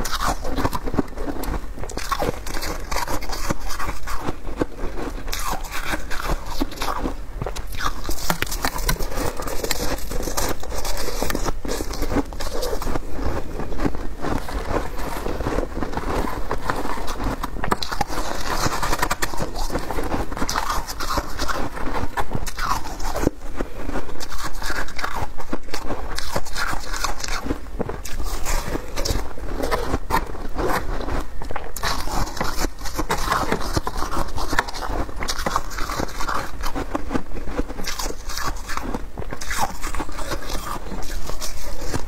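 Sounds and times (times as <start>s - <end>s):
shaved ice crunching when chewed: 0.0s - 42.0s.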